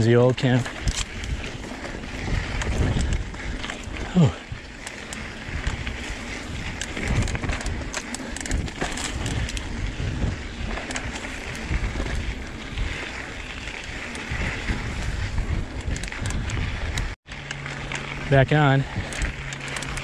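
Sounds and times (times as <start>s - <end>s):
bike clicking and rattling: 0.0s - 20.0s
bike tyres rumbling on dirt: 0.0s - 20.0s.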